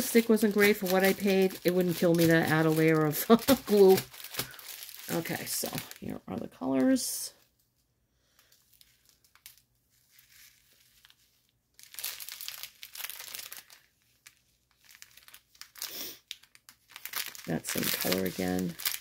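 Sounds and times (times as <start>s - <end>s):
plastic bag crinkling: 0.0s - 7.6s, 8.3s - 19.0s.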